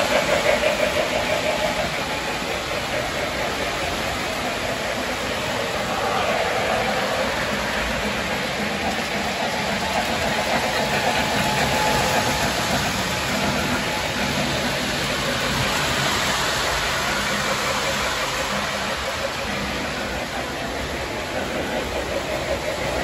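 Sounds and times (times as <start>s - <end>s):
model train wheels clattering: 0.0s - 23.0s.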